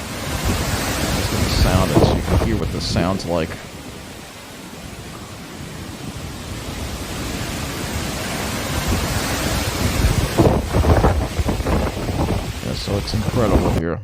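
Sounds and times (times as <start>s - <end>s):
strong wind gusting: 0.0s - 14.0s.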